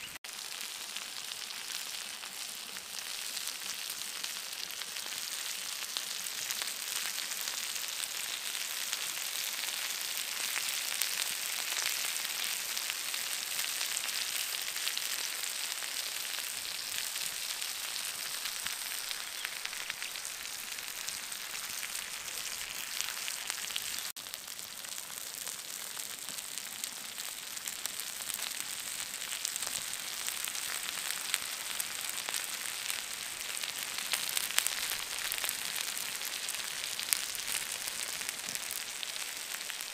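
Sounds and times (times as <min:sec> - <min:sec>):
meat sizzling on hot stone: 0:00.0 - 0:39.9.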